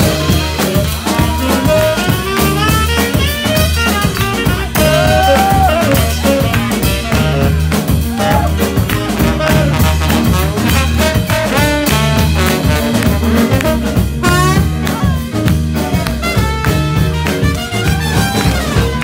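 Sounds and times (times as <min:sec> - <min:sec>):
drums: 0:00.0 - 0:19.0
trumpet melody: 0:00.0 - 0:19.0
upright bass: 0:00.0 - 0:19.0.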